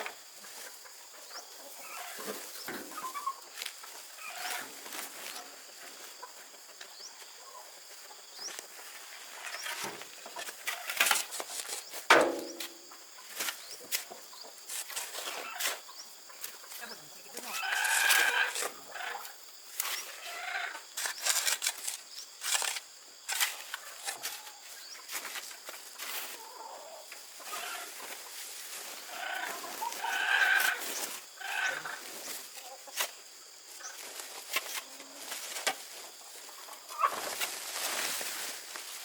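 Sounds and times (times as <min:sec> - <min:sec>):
chickens clucking: 0:00.0 - 0:21.6, 0:23.3 - 0:39.0.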